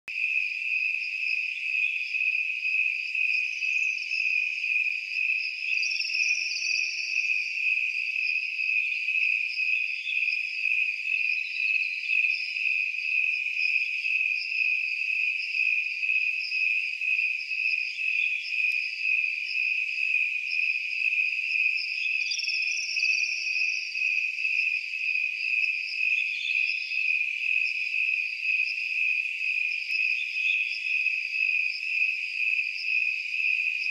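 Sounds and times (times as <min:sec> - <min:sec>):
crickets chirping: 0:00.1 - 0:33.9.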